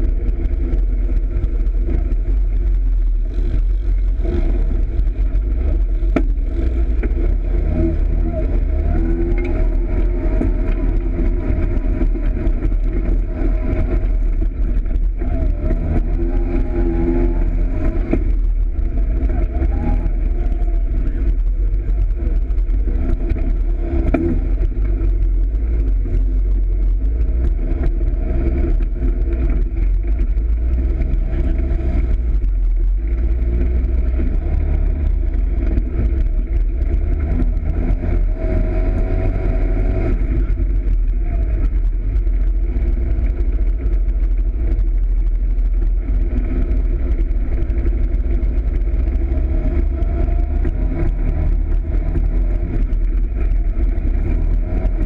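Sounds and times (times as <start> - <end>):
low rumble: 0.0 - 55.0
off-road vehicle engine revving: 0.0 - 55.0.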